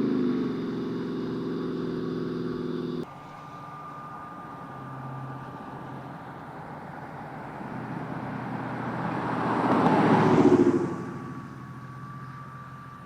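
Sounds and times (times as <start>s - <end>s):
car exhaust driving past: 0.0s - 13.0s.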